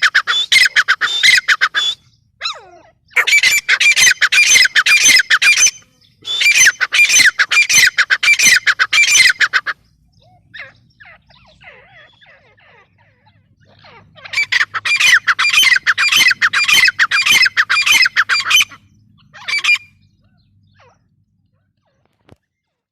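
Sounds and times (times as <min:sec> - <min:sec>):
francolin calling: 0:00.0 - 0:22.8.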